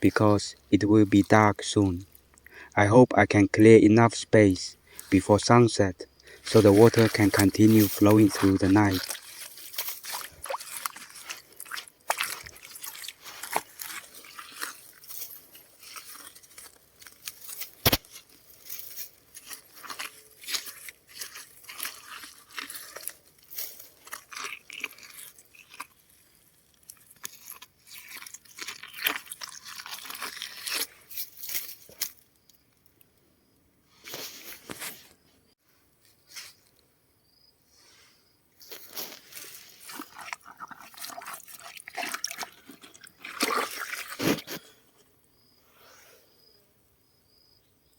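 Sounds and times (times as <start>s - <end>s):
digging in stony ground: 0.0s - 33.1s, 34.0s - 36.8s, 38.6s - 46.6s.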